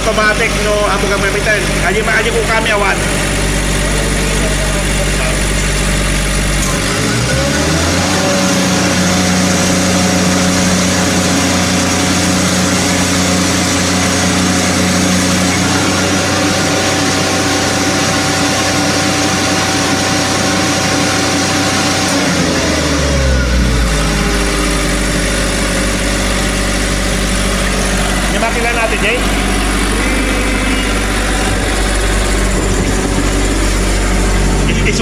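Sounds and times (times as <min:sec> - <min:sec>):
diesel generator engine revving: 0:00.0 - 0:35.0.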